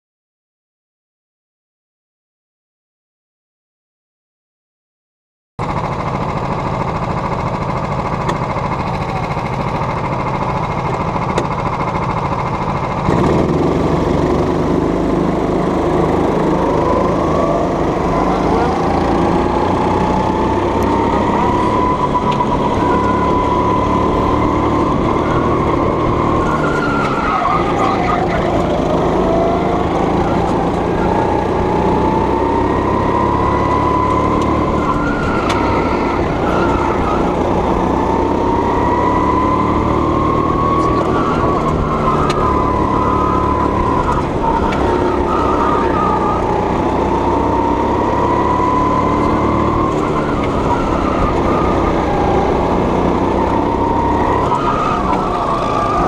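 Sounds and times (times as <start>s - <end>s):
go-kart engine revving: 5.6s - 56.0s.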